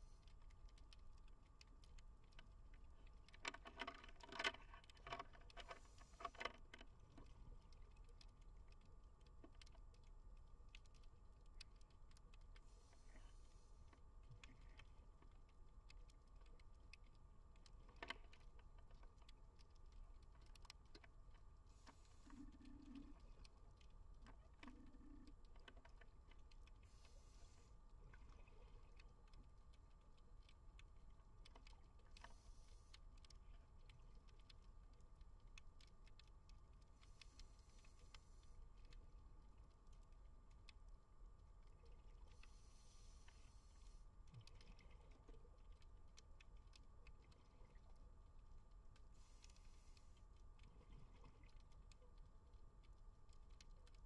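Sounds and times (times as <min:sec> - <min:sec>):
faint steady hum: 0:00.0 - 0:54.0
underwater clicks and crackles: 0:00.0 - 0:54.0.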